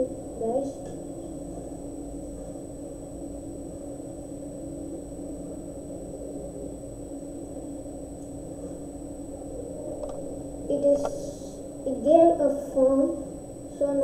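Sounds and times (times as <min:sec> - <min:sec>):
faint hiss: 0:00.0 - 0:14.0
steady low hum: 0:00.0 - 0:14.0.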